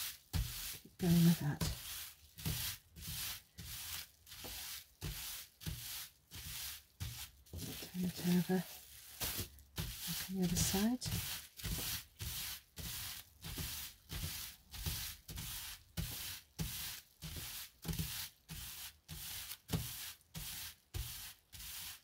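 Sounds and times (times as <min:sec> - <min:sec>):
hands rubbing bubble wrap: 0:00.0 - 0:22.0.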